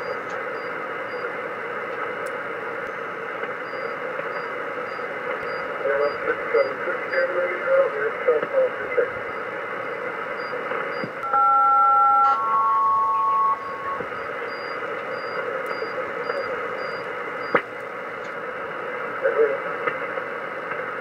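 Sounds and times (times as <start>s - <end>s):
two-tone radio chords: 0.0s - 18.2s
radio band noise hiss: 0.0s - 21.0s.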